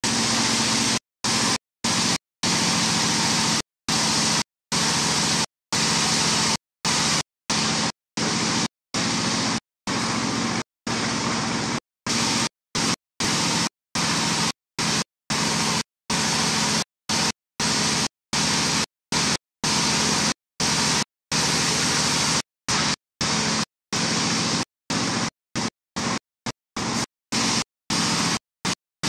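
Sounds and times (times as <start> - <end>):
low engine drone: 0.0 - 28.4.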